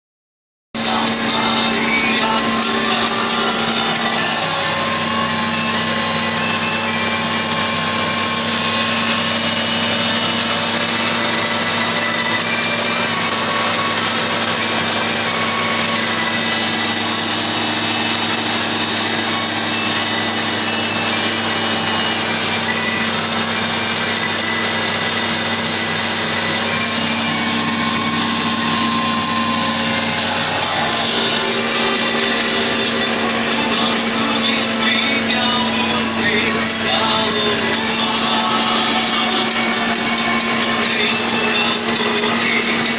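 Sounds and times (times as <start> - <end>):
tractor diesel engine droning: 0.8 - 42.9.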